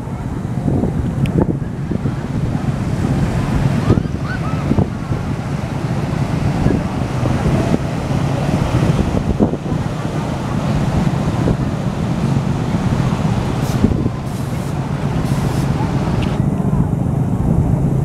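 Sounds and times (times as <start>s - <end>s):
ocean surf on sandy beach: 0.0s - 18.0s
wind buffeting microphone: 0.0s - 18.0s.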